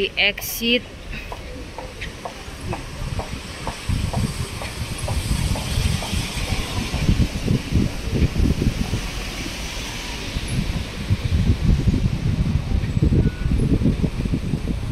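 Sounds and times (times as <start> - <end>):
wind rumbling on microphone: 0.0 - 14.9
traffic hiss on wet roads: 0.9 - 14.9.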